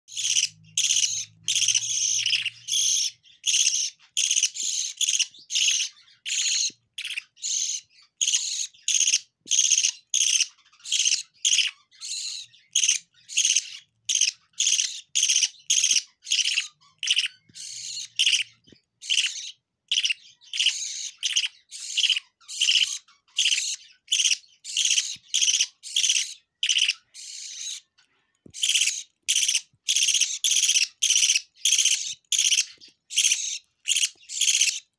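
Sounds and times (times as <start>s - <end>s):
chicks rasping begging calls: 0.1s - 28.0s, 28.6s - 34.9s.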